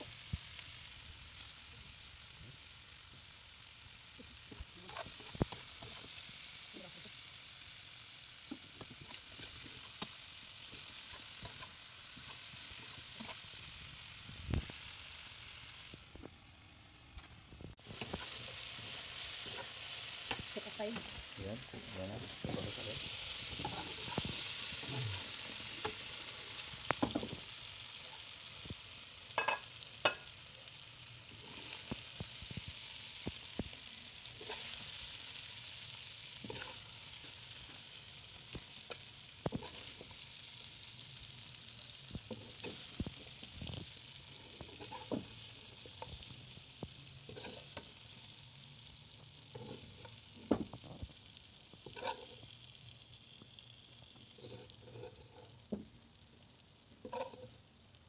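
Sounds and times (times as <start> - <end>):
chicken sizzling in a wok: 0.0 - 58.0.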